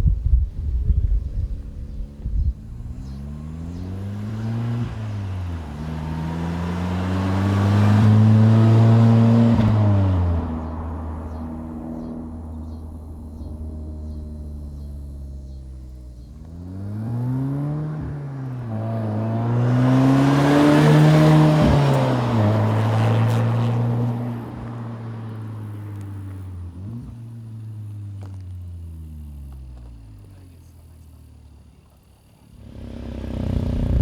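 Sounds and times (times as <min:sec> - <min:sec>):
car exhaust accelerating hard: 0:00.0 - 0:34.0.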